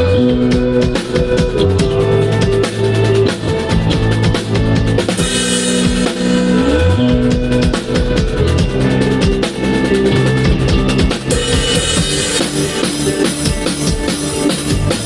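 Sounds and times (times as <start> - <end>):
band playing: 0.0 - 15.0
drum kit beat: 0.0 - 15.0
low bass notes: 0.0 - 15.0.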